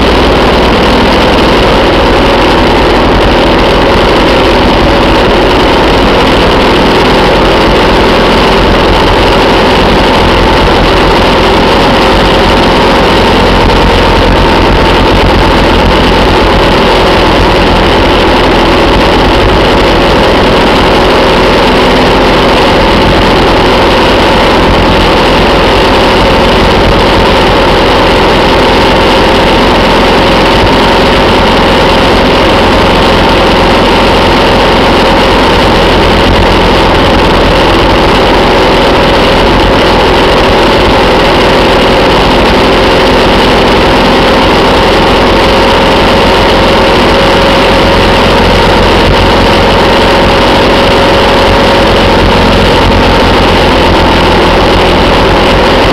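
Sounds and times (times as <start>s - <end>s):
motorcycle engine cruising: 0.0s - 55.9s
wind noise: 0.0s - 55.9s.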